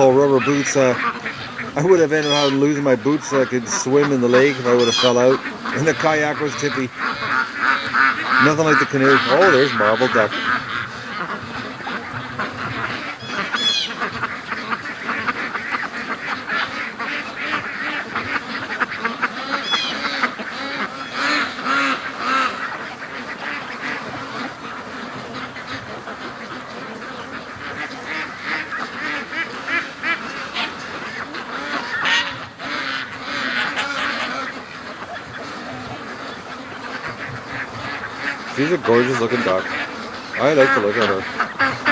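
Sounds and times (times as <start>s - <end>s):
ducks quacking: 0.0s - 41.9s.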